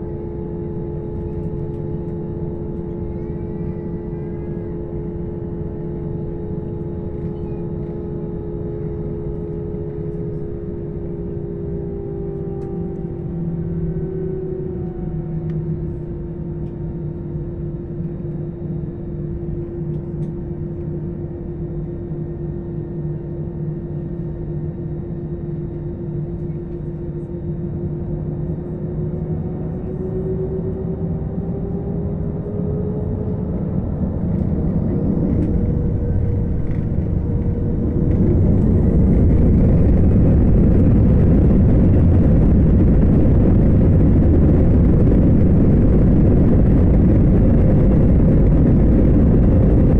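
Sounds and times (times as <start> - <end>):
jet engines humming from cabin: 0.0 - 49.9.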